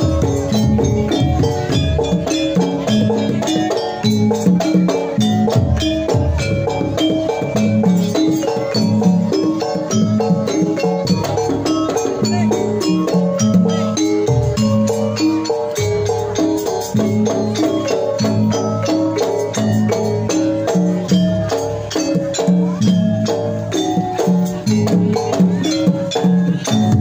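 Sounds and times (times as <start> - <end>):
gamelan ensemble playing: 0.0 - 27.0.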